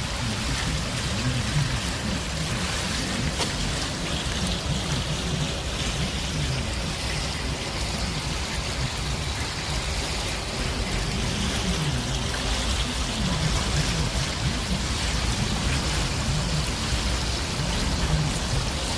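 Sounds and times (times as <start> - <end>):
stream flowing: 0.0 - 18.9.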